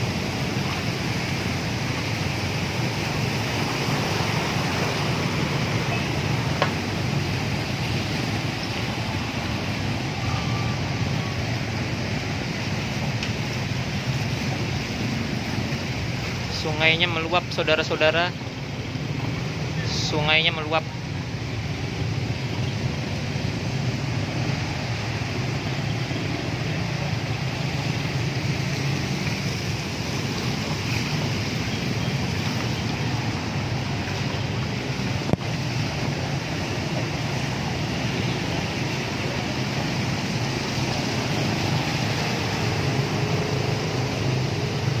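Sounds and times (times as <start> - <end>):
floodwater rushing: 0.0 - 45.0
low traffic rumble: 0.0 - 45.0.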